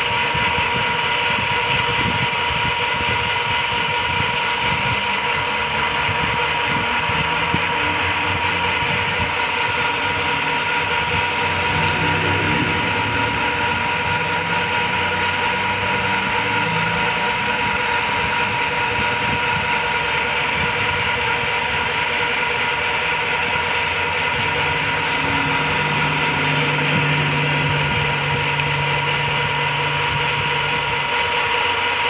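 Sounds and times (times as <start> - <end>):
metal lathe humming with high whine: 0.0 - 32.0.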